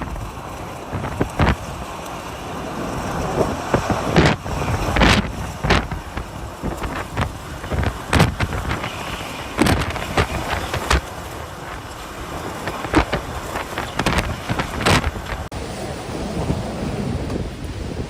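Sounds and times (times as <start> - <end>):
wind gusting on microphone: 0.0 - 18.0.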